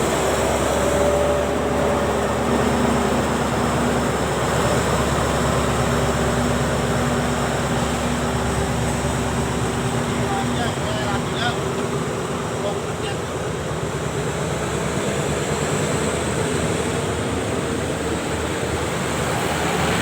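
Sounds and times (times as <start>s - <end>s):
diesel train engine rumble: 0.0s - 20.0s.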